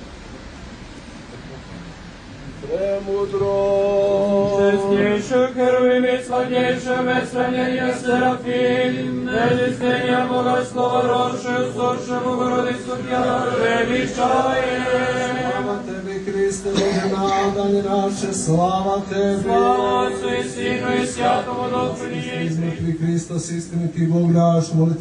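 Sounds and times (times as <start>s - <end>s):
low held drone: 0.0s - 24.3s
voices chanting: 2.7s - 23.7s.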